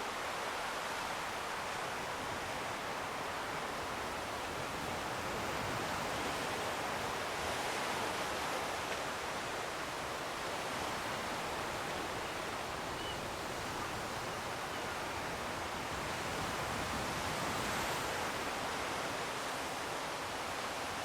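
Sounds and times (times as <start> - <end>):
distant sea surf: 0.0 - 21.0
wind: 0.0 - 21.0.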